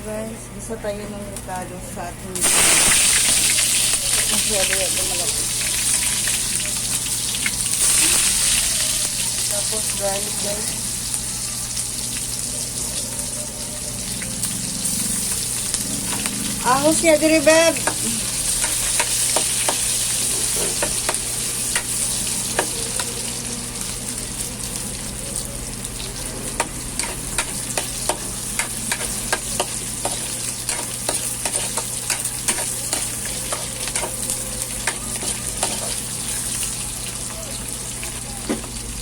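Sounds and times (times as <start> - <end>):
oil sizzling in a pan: 2.4 - 39.0.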